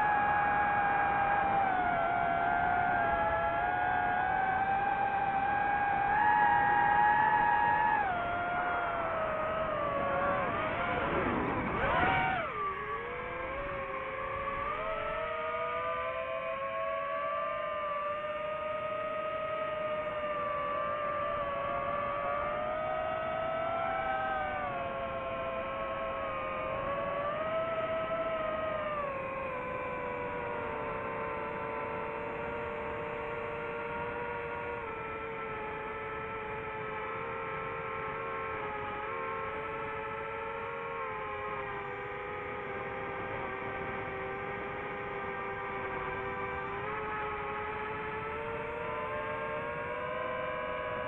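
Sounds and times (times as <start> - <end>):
drone motors and propellers whining: 0.0 - 51.0.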